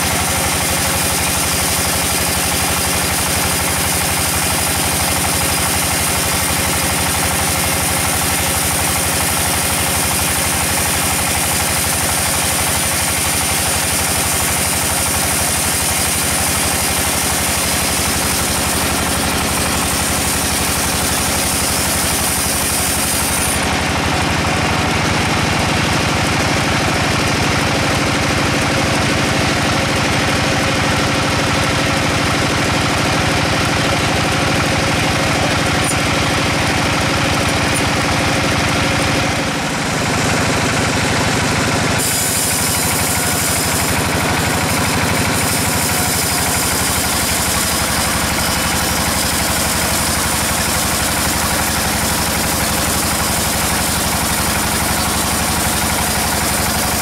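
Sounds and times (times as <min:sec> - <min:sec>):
band sawmill cutting log: 0:00.0 - 0:57.0.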